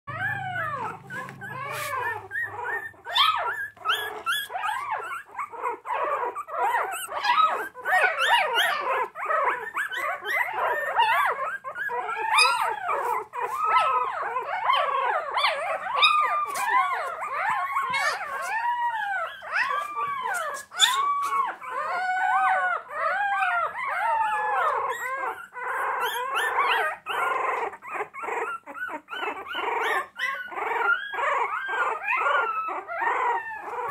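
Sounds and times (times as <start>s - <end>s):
puppies whining: 0.1s - 33.9s.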